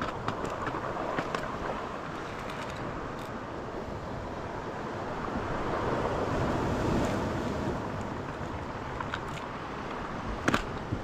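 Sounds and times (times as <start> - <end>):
surf washing on shore: 0.0 - 11.0
wind on microphone: 0.0 - 11.0.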